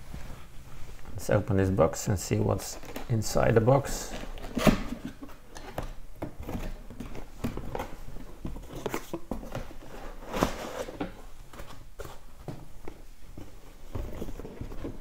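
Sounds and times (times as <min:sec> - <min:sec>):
packaging rustling and scraping: 0:02.3 - 0:15.0.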